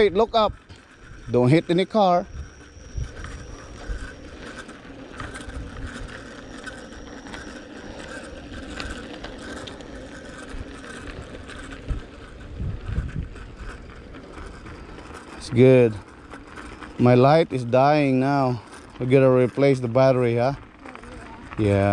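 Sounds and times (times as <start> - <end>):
bicycle rolling on road: 0.0 - 21.9.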